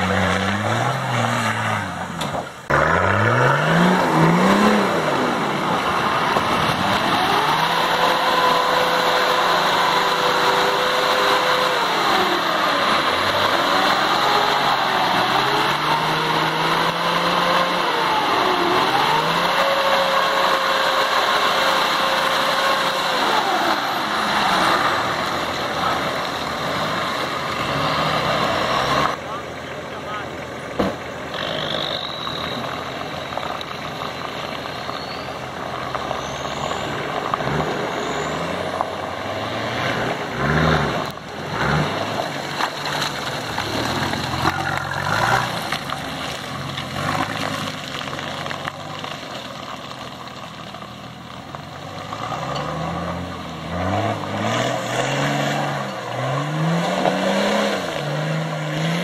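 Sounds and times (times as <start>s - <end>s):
off-road engines revving: 0.0s - 59.0s.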